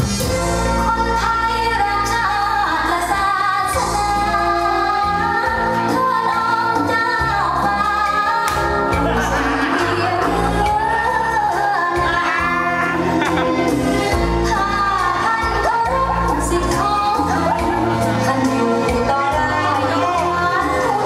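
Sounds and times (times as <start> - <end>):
bass line: 0.0 - 21.0
woman singing pop song: 0.8 - 21.0.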